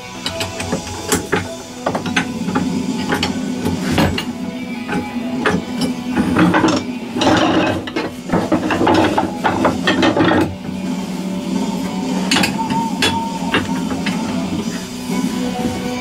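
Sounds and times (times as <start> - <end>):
wood lathe humming: 0.0 - 16.0
turning tool scraping wood: 0.6 - 16.0.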